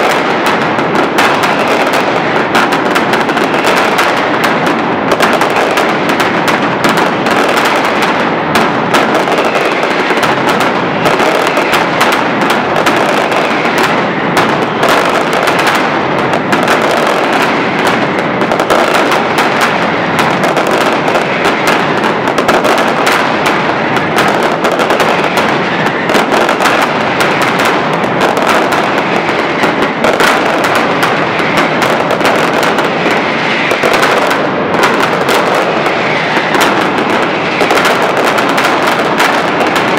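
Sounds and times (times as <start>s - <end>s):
firecrackers barrage of bangs: 0.0s - 39.9s.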